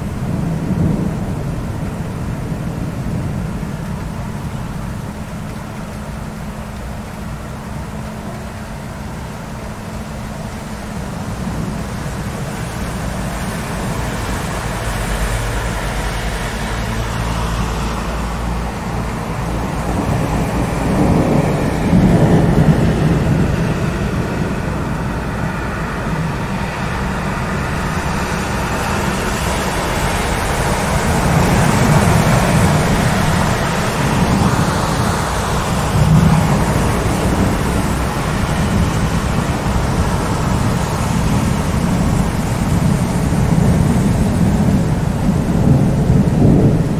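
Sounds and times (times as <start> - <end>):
low rolling thunder: 0.0 - 46.9
steady rain: 0.0 - 46.9.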